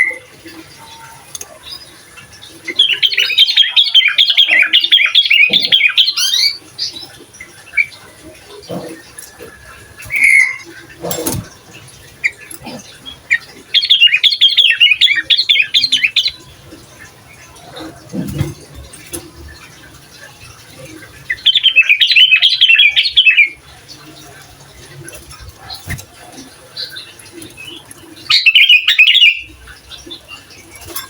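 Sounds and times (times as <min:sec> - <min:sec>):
bird chattering song: 0:00.0 - 0:31.0.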